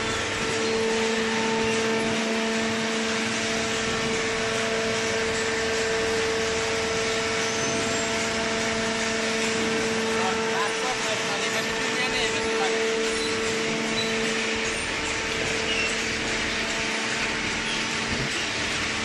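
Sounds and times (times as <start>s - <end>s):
hydraulic pump motor humming: 0.0s - 19.0s.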